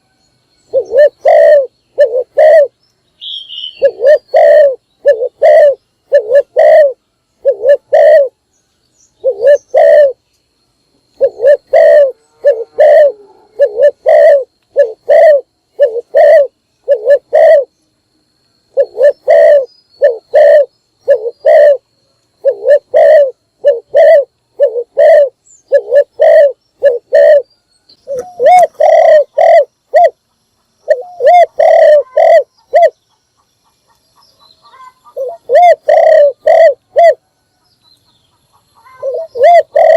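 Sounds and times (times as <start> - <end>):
dove cooing: 0.7 - 8.4, 9.2 - 10.2, 11.0 - 17.8, 18.7 - 33.0, 33.9 - 37.4, 38.5 - 39.9.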